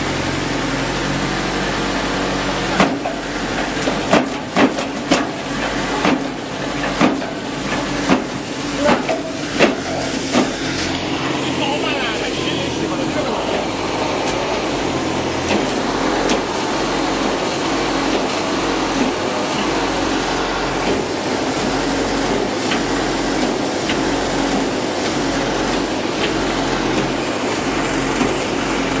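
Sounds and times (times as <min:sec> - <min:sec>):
drilling rig running: 0:00.0 - 0:29.0.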